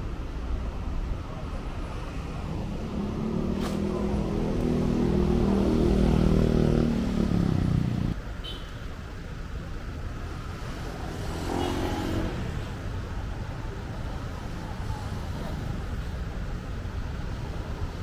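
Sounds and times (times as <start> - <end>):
street noise: 0.0 - 18.0.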